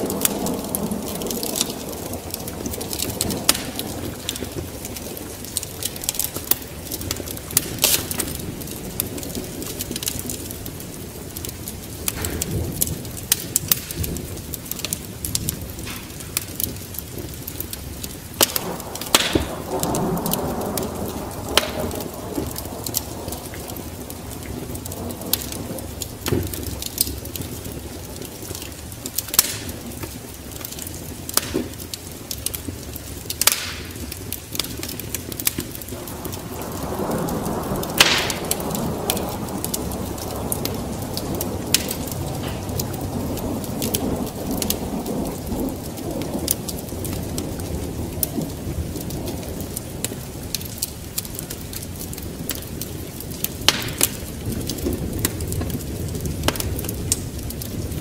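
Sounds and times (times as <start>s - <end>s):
low storm rumble: 0.0s - 58.0s
rain: 0.0s - 58.0s
wood fire crackling: 0.0s - 58.0s.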